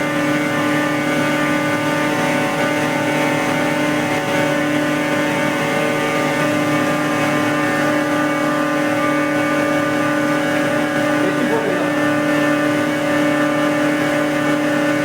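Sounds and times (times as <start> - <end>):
drive motor hum: 0.0 - 15.0
hydraulic pump whine: 0.0 - 15.0.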